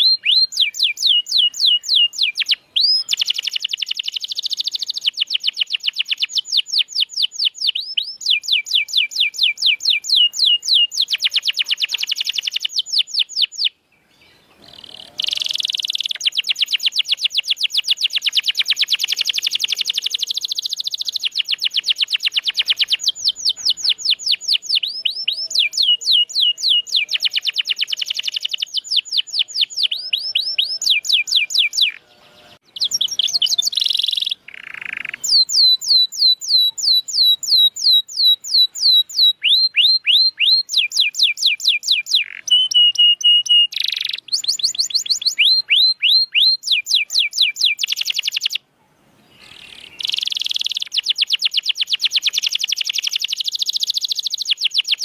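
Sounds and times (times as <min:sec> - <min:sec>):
canary singing trills: 0:00.0 - 0:48.6, 0:49.2 - 0:55.0.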